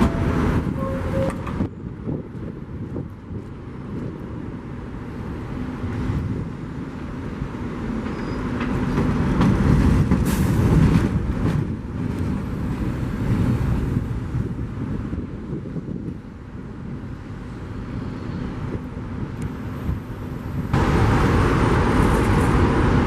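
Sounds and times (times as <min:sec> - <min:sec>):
subway train rumbling past: 0:00.0 - 0:23.0.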